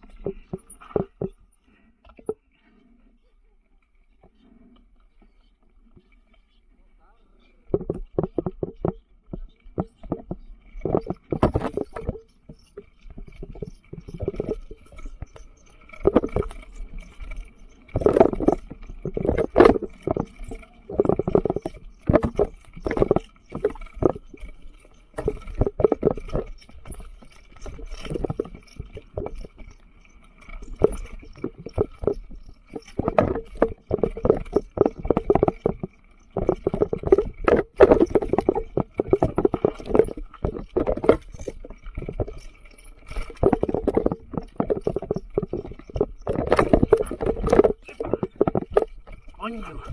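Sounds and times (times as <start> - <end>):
mountain bike rattling over rocks: 0.0 - 2.5, 4.1 - 49.9.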